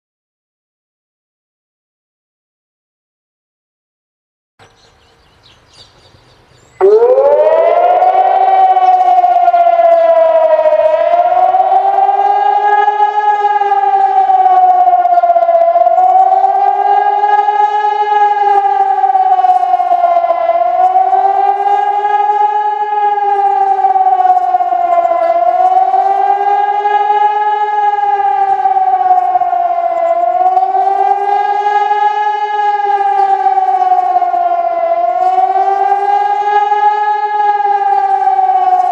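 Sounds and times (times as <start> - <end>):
civil defence siren wailing: 6.8 - 38.9.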